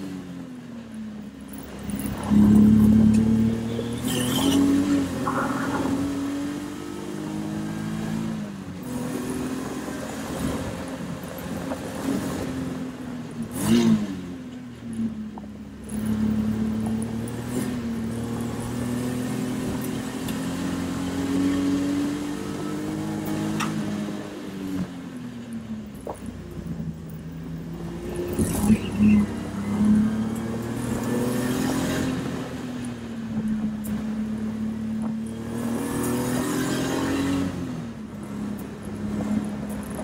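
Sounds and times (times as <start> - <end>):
race car engine: 0.0 - 40.0.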